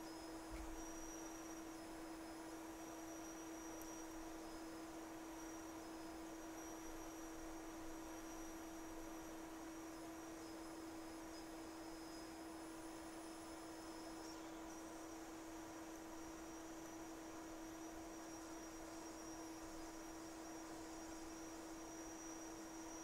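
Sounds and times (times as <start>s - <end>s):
faint high whines: 0.0s - 23.0s.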